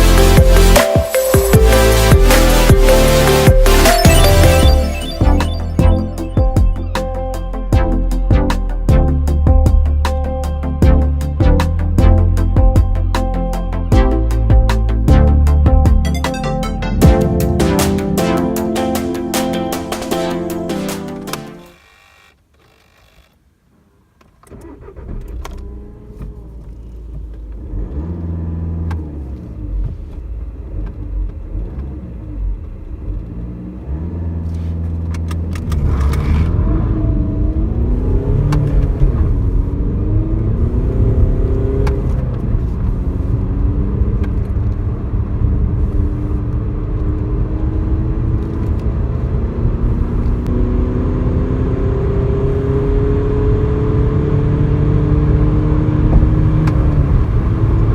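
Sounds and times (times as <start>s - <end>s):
diesel car engine accelerating: 0.0s - 19.1s, 24.5s - 57.9s.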